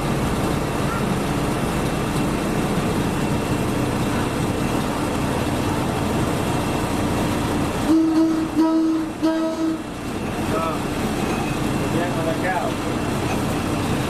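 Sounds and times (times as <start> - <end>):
moving train noise: 0.0 - 14.0
train engine drone: 0.0 - 14.0.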